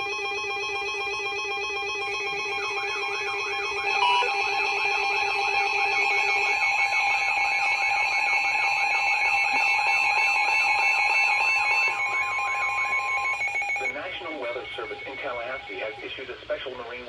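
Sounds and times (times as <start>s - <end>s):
steady alert tones: 0.0s - 16.1s
warbling alarm: 0.0s - 17.0s.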